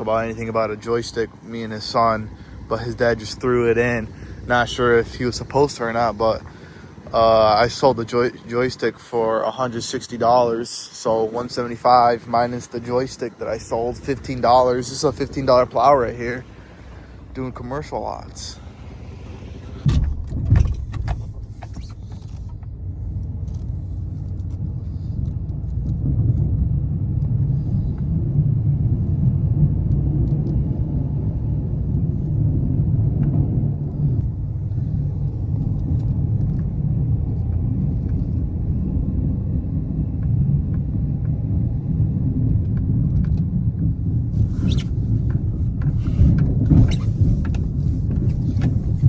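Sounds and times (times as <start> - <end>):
truck engine rumble: 0.0 - 49.0.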